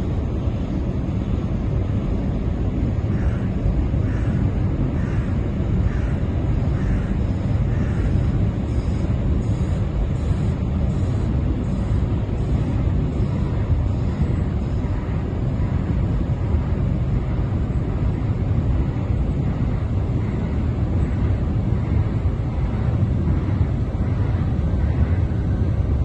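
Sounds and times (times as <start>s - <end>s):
ferry engines rumbling: 0.0s - 26.0s
wind buffeting microphone: 0.0s - 26.0s.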